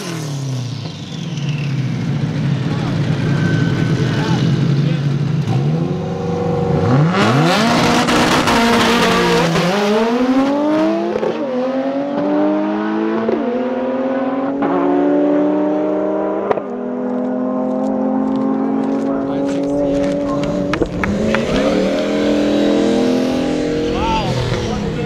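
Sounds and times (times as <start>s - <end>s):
drag race car accelerating: 0.0s - 25.0s.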